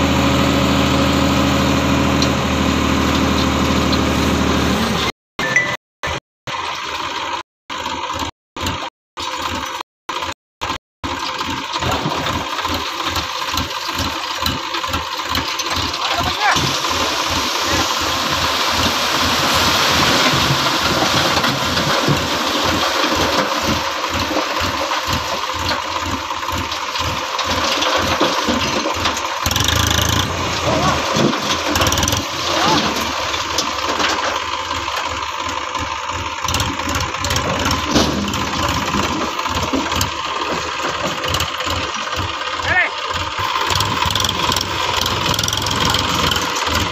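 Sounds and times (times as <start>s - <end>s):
tractor diesel engine pulsing: 0.0s - 46.9s.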